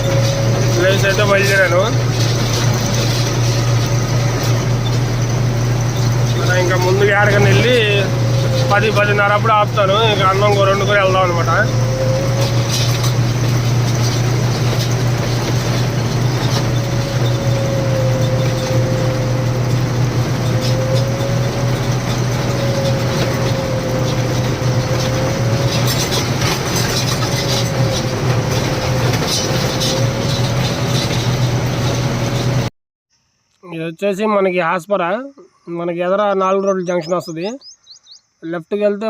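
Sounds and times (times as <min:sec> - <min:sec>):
truck diesel engine droning: 0:00.0 - 0:32.7.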